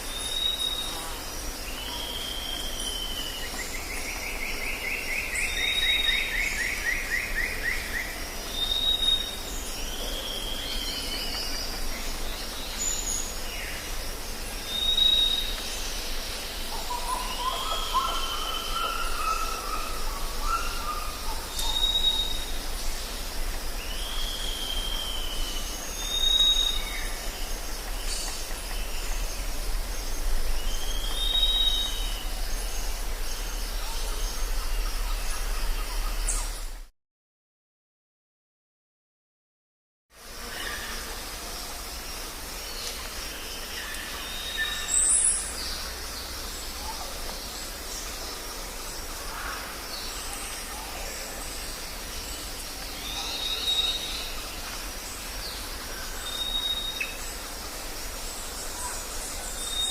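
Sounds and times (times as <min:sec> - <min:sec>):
jungle birds calling: 0:00.0 - 0:36.9, 0:40.2 - 0:59.9
steady high hiss: 0:00.0 - 0:36.9, 0:40.2 - 0:59.9.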